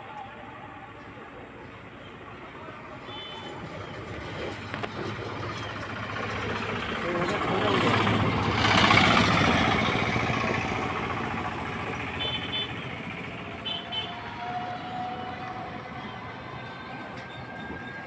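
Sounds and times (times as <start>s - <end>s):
road vehicle passing: 3.5s - 18.0s.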